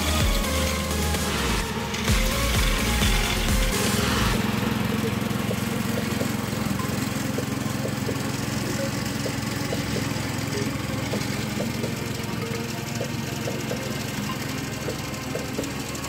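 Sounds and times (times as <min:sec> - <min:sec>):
ride-on lawn mower engine: 0:00.0 - 0:16.0.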